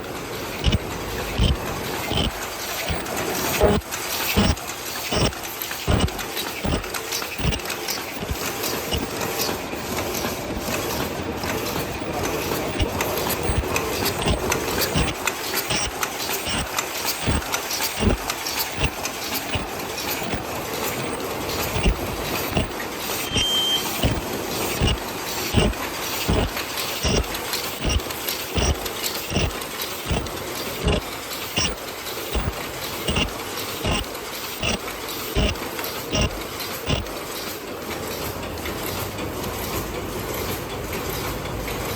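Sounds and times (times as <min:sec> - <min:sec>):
machine clattering with knocks: 0:00.0 - 0:41.9.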